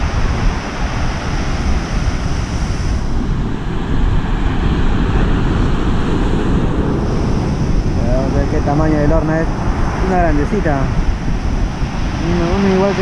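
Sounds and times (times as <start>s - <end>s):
surf breaking on a cobble beach: 0.0s - 13.0s
wind rumbling on microphone: 0.0s - 13.0s.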